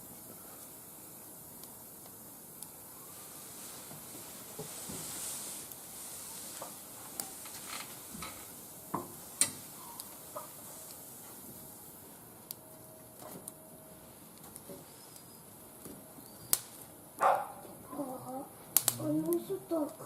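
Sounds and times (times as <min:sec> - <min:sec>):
wood fire crackling in grill: 0:00.0 - 0:20.0.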